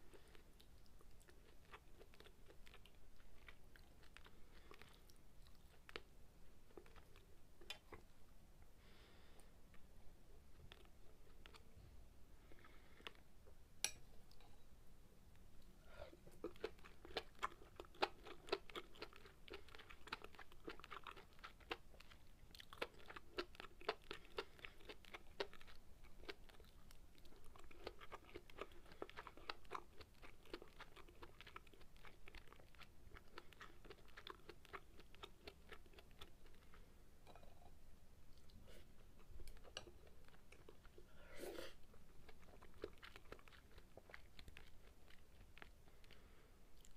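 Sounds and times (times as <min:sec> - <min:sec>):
person chewing food: 0:00.0 - 0:08.2, 0:09.4 - 0:11.8, 0:12.4 - 0:14.6, 0:16.1 - 0:37.5, 0:38.3 - 0:46.9.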